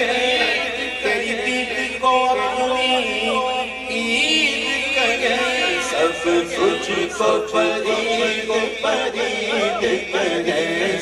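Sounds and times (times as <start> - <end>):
chanted vocal background: 0.0 - 11.0.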